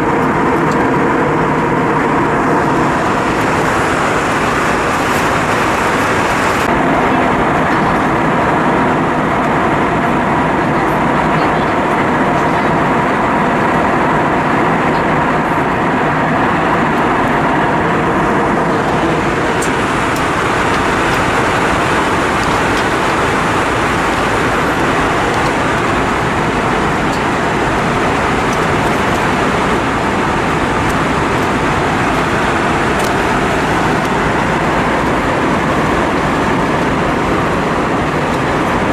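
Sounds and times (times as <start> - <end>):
low engine drone: 0.0 - 38.9
rush of airflow: 0.0 - 38.9.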